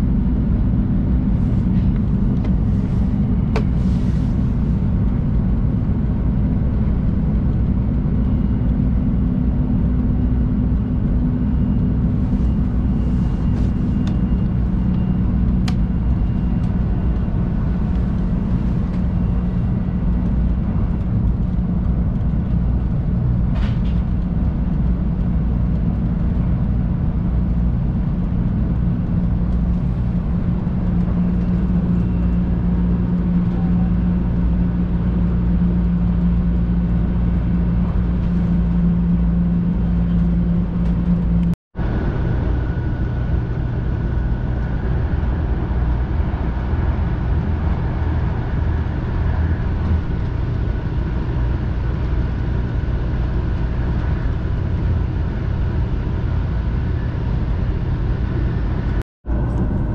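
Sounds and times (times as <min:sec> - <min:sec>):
constant hum: 0:00.0 - 0:59.9
train cabin low rumble: 0:00.0 - 0:59.9.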